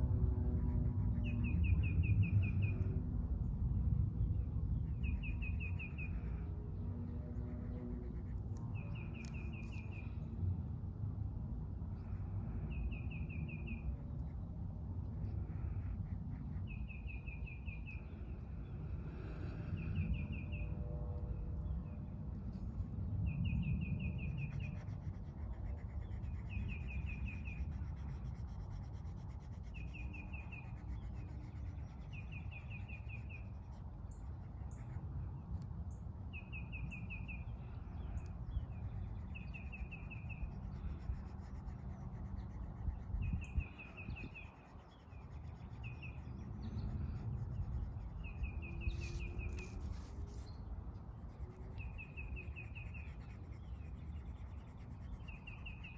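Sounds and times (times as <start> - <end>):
low outdoor rumble: 0.0 - 55.9.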